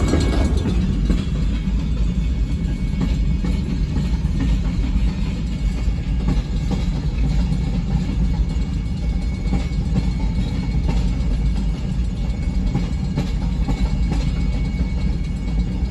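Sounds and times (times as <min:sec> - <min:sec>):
freight train rumble: 0:00.0 - 0:15.9
train wheel clicks: 0:00.0 - 0:15.9.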